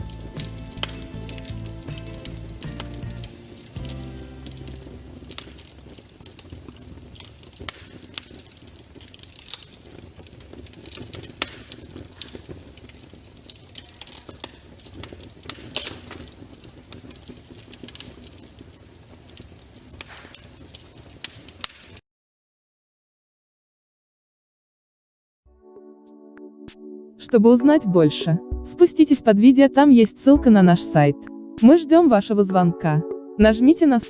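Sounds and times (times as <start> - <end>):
firewood crackling: 0.0 - 22.0, 27.3 - 34.0.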